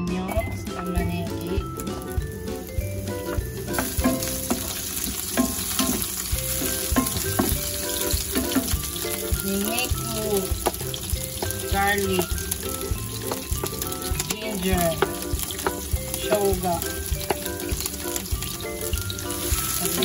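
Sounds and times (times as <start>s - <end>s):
onions sizzling in oil: 0.4s - 20.0s
spatula tapping pan: 0.7s - 20.0s.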